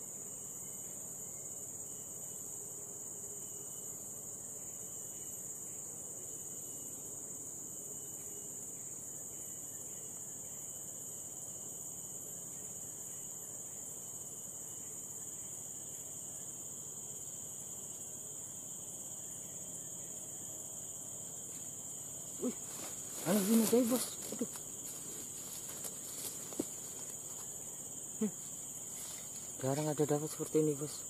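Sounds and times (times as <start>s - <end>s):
insects shrill drone: 0.0s - 31.0s.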